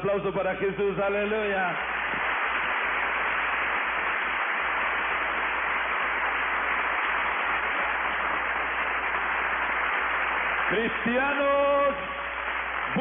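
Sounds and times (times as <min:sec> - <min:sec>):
congregation applauding: 0:01.4 - 0:13.0.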